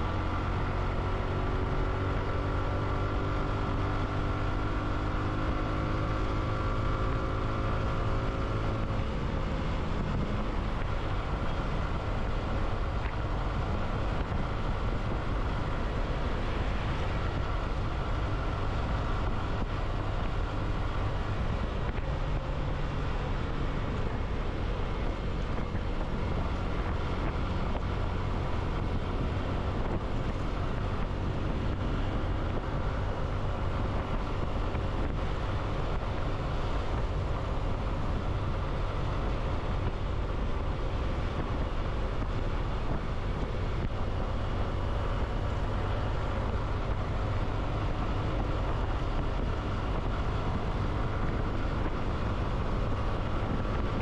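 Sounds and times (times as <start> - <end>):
motorbike engine hum: 0.0 - 54.0
road noise: 0.0 - 54.0
wind buffeting microphone: 6.3 - 54.0.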